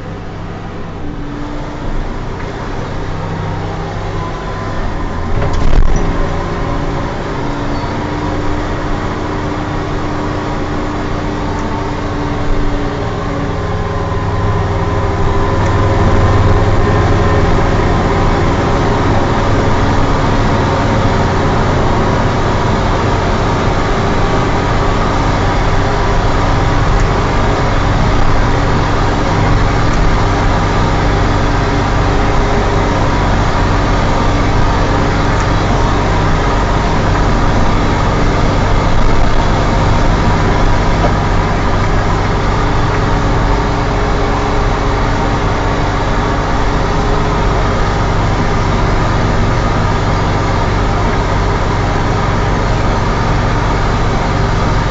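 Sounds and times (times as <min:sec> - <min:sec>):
tractor diesel engine running: 0:00.0 - 0:54.9
turbocharger whistling: 0:01.8 - 0:54.9.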